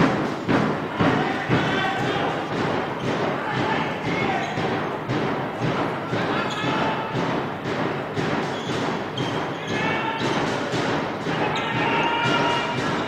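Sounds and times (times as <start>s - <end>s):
voices echoing in hall: 0.0s - 13.0s.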